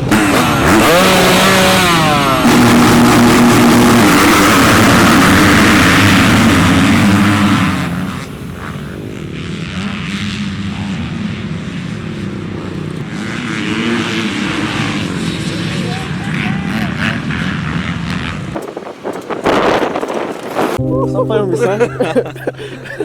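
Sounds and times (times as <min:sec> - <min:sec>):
dirt bike engines revving: 0:00.0 - 0:20.8.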